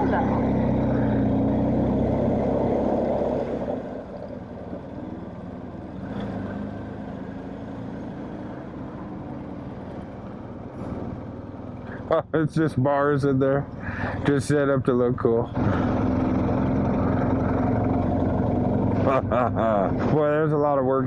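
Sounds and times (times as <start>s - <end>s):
motorcycle engines at low speed: 0.0s - 21.0s.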